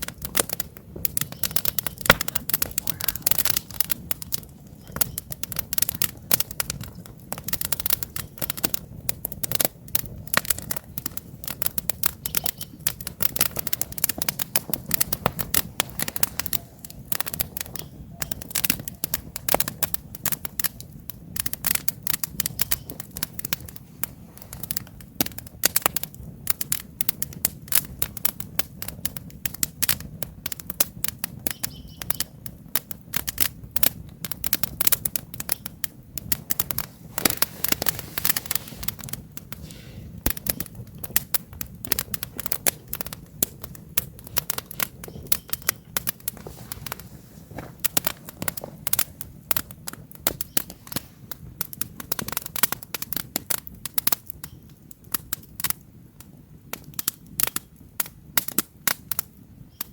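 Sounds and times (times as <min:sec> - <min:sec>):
campfire crackling: 0:00.0 - 0:59.9
low rumble of flames: 0:00.0 - 0:59.9.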